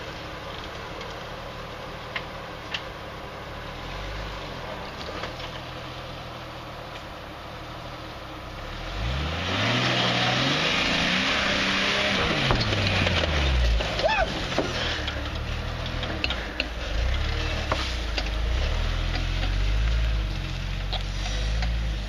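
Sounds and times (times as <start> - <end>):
vehicle engine running and revving: 0.0 - 22.0.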